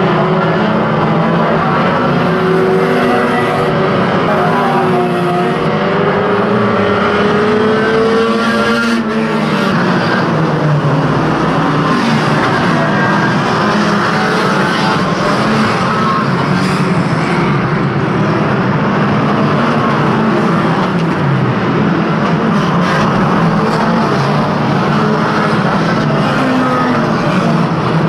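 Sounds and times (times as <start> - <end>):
racing car engines revving: 0.0 - 28.0.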